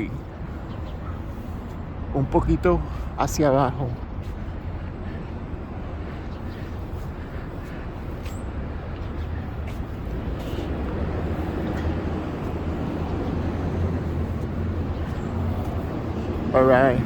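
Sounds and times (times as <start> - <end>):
low rumble of vehicles: 0.0 - 17.0.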